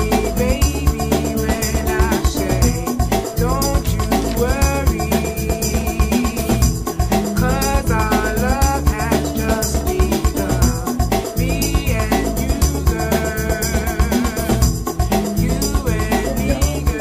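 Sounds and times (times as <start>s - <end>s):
steady drum beat: 0.0s - 17.0s
wavering melody line: 0.0s - 17.0s.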